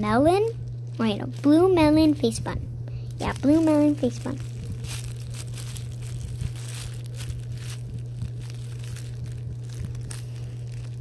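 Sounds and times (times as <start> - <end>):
plastic bag crinkling: 0.0 - 2.3, 3.0 - 11.0
steady low hum: 0.0 - 11.0.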